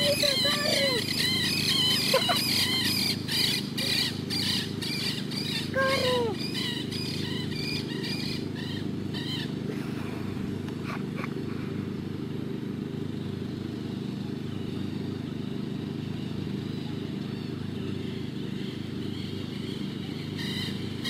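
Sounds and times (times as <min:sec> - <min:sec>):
bird calling: 0:00.0 - 0:12.0, 0:14.1 - 0:21.0
low hum: 0:00.0 - 0:21.0.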